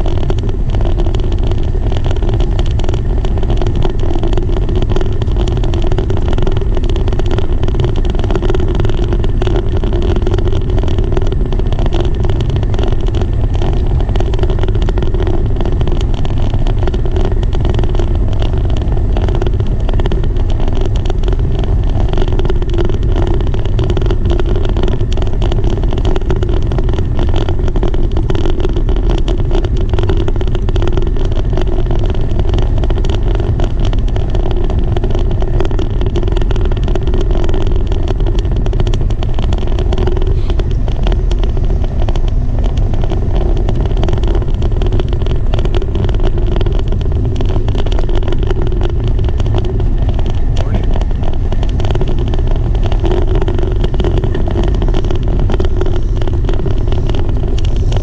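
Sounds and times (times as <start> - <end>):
wheels rattling over wooden boards: 0.0 - 58.0
wind buffeting microphone: 0.0 - 58.0.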